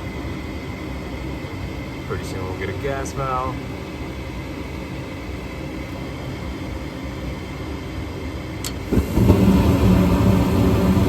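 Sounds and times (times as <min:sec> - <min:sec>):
burners igniting low rumble: 0:00.0 - 0:11.0
furnace inducer motor running: 0:00.0 - 0:11.0.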